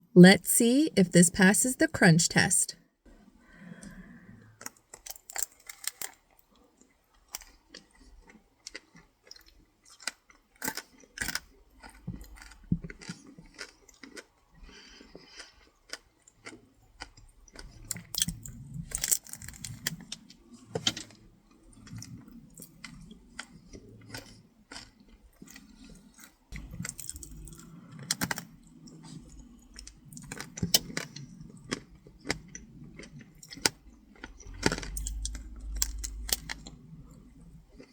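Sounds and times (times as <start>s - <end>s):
dense chewing: 3.6s - 37.9s.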